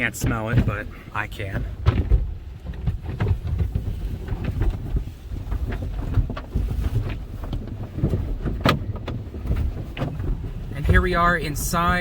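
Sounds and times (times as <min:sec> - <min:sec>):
car wash low rumble: 0:00.0 - 0:12.0
wash cloths slapping car: 0:00.0 - 0:12.0.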